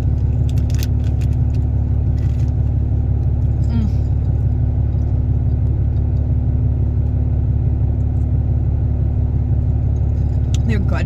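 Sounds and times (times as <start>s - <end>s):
low rumble with hum: 0.0s - 11.0s.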